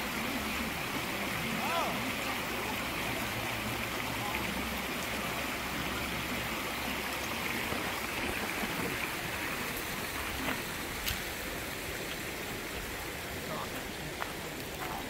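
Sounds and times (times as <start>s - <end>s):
stream running: 0.0s - 15.0s.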